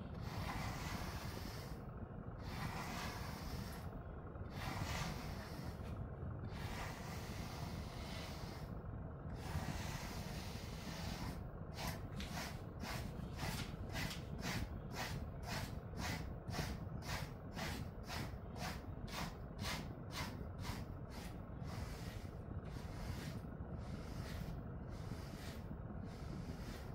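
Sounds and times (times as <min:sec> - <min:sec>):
grooming brush swishing through fur: 0:00.2 - 0:01.8, 0:02.4 - 0:03.8, 0:04.5 - 0:05.9, 0:06.6 - 0:08.7, 0:09.4 - 0:26.9.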